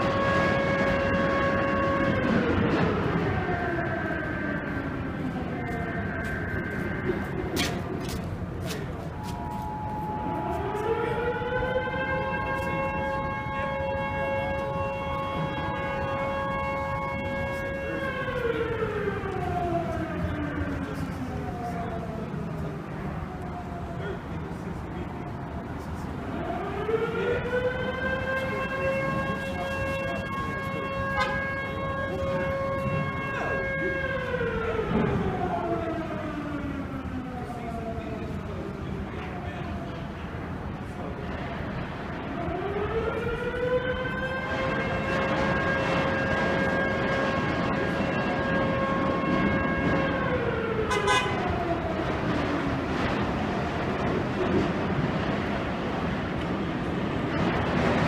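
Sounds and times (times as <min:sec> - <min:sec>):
distant siren wailing: 0:00.0 - 0:58.0.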